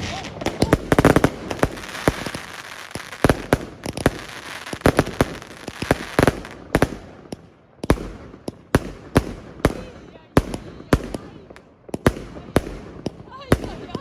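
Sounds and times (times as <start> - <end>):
fireworks banging: 0.0 - 14.0
fireworks crackling: 0.0 - 14.0.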